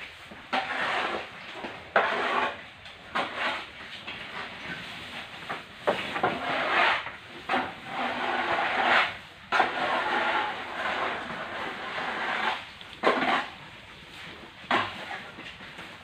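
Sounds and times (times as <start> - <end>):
broom sweeping wet floor: 0.0 - 16.0.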